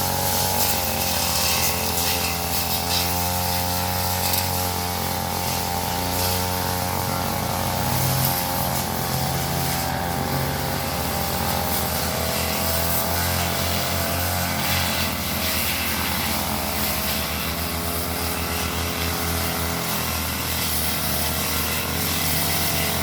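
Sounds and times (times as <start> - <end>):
brush cutter engine running: 0.0 - 23.0.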